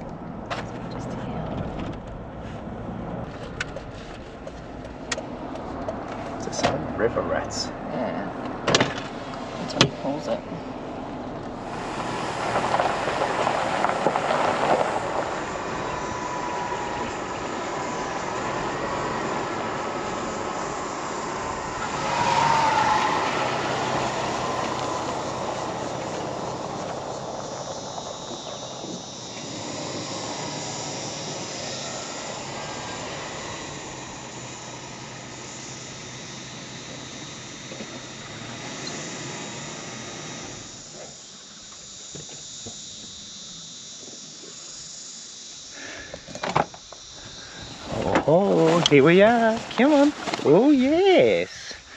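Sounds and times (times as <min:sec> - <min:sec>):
car rattles: 0:00.0 - 0:43.1, 0:46.2 - 0:51.5
car driving on rough road: 0:00.0 - 0:51.9.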